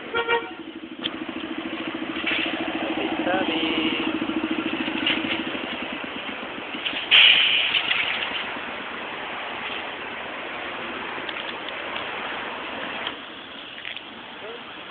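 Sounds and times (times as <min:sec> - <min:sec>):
street traffic rushing: 0:00.0 - 0:14.9.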